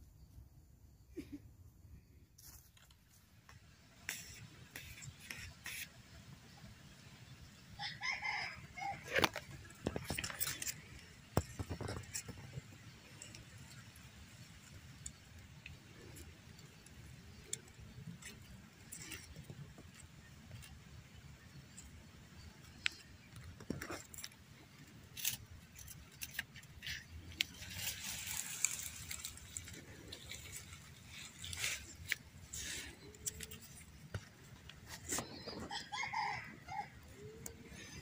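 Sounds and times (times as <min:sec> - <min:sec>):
leaves and twigs rustling: 0:06.6 - 0:38.0.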